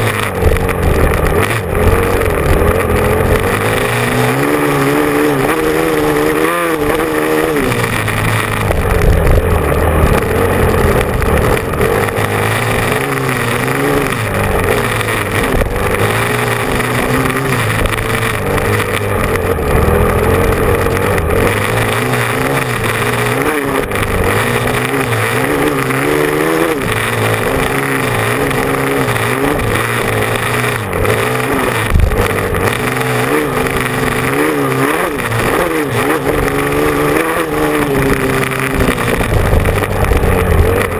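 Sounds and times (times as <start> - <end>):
motocross motorcycle engine revving: 0.0 - 40.9.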